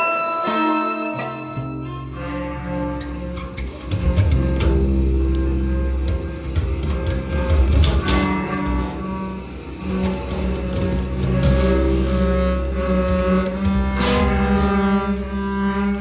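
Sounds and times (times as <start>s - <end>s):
acoustic guitar: 0.0s - 16.0s
violin: 0.0s - 16.0s.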